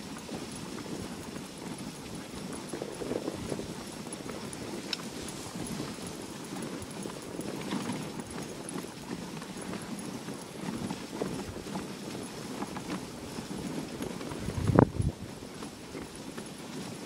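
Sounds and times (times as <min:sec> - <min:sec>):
dog paws pattering on snow: 0:00.0 - 0:17.0.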